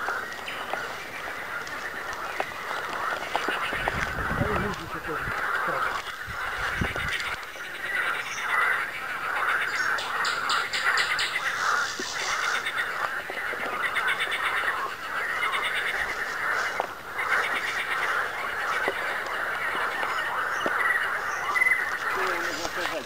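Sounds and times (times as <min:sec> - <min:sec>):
fast pulsed frog trills: 0:00.0 - 0:23.0
frog chorus: 0:00.0 - 0:23.0.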